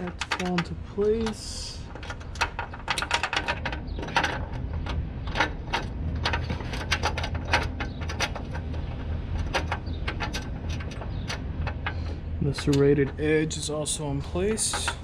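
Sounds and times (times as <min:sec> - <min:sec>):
small metal knocks: 0:00.0 - 0:13.3, 0:14.5 - 0:15.0
steady low hum: 0:00.0 - 0:15.0.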